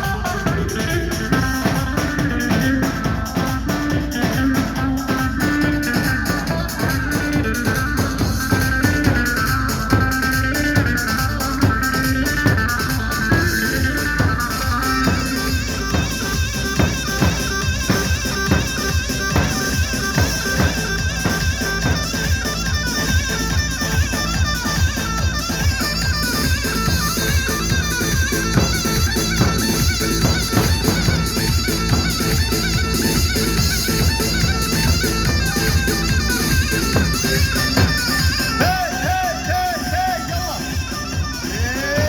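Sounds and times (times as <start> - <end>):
drum kit beat: 0.0 - 42.0
high reedy melody: 0.0 - 42.0.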